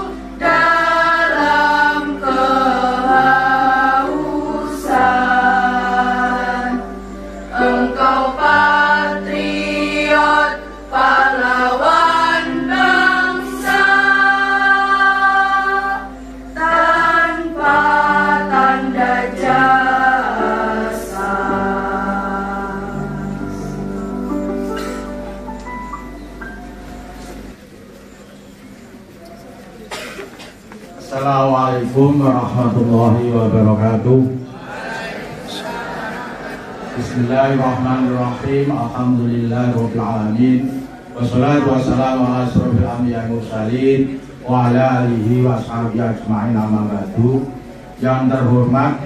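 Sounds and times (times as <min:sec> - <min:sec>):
girls' choir singing: 0:00.0 - 0:24.9, 0:31.8 - 0:46.8.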